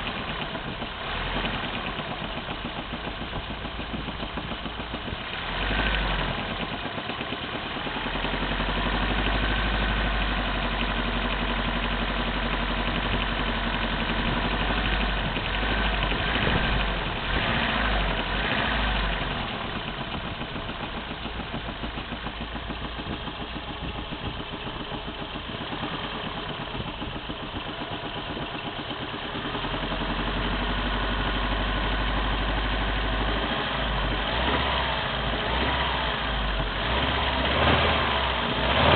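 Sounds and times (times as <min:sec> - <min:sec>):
car engine running with knock: 0:00.0 - 0:38.9.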